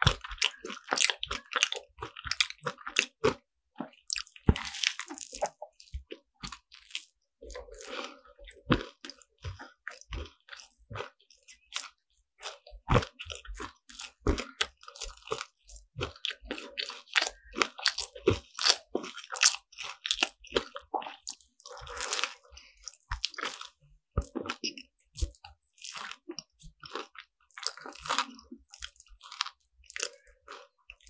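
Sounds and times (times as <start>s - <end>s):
crunching crisp pastry: 0.0s - 31.0s
soft squishy chewing: 0.0s - 31.0s.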